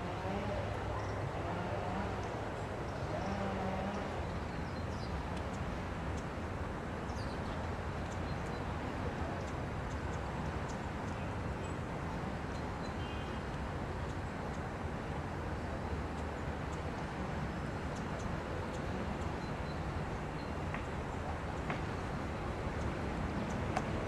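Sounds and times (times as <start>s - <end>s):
city traffic rumble: 0.0s - 24.0s.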